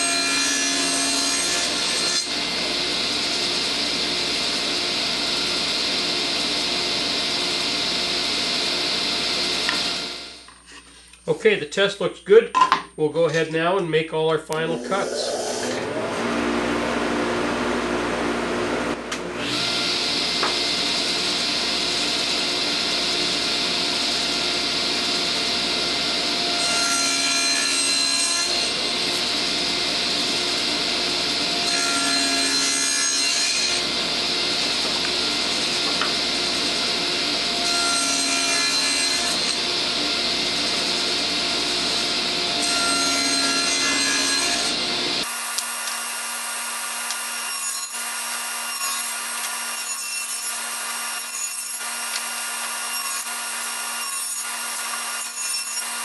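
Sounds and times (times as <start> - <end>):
table saw cutting plywood: 0.0 - 10.8, 14.6 - 56.0.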